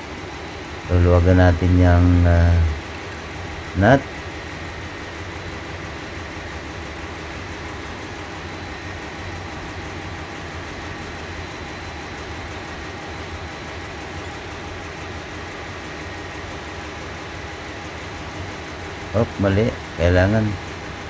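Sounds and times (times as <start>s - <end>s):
engine-room machinery drone: 0.0s - 21.0s.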